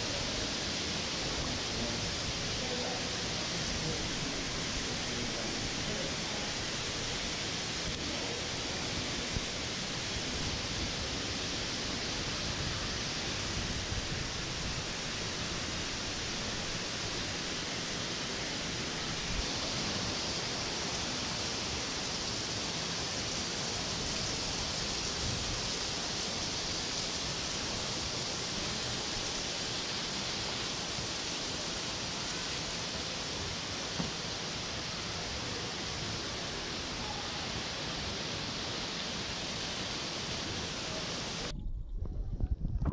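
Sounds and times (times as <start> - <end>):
rushing water: 0.0 - 41.5.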